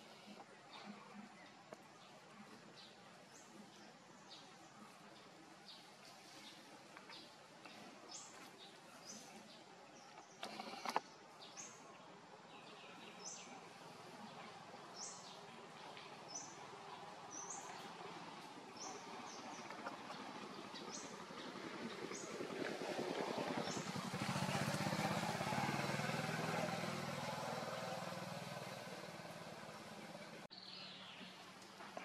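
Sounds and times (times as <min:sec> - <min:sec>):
faint background noise: 0:00.0 - 0:32.0
small birds chirping: 0:00.0 - 0:32.0.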